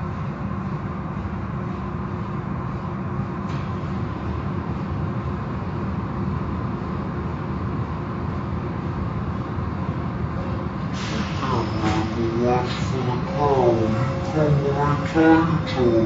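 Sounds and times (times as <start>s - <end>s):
car wash machinery rumbling: 0.0s - 16.0s.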